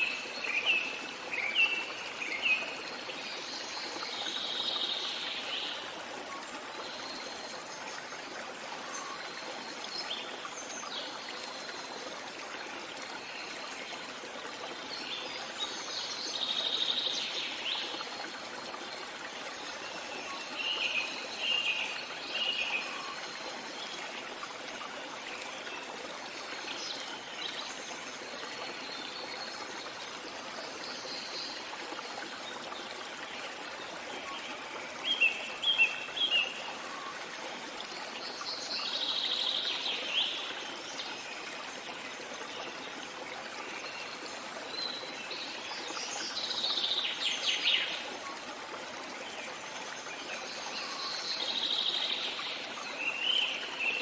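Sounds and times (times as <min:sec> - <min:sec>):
flowing stream: 0:00.0 - 0:54.0.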